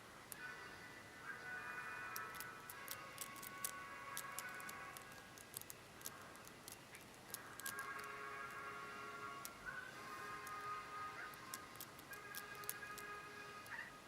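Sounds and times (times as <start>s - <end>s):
faint steady tones: 0.0s - 14.0s.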